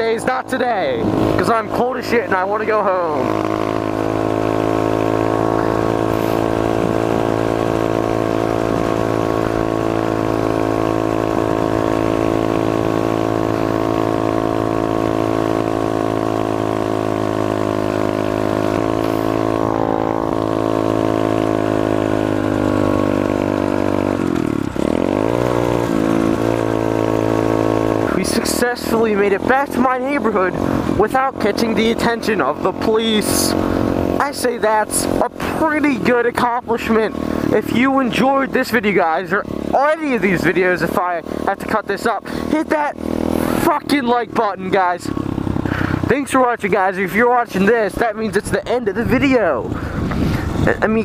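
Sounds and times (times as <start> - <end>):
motorbike engine running: 0.0 - 51.0.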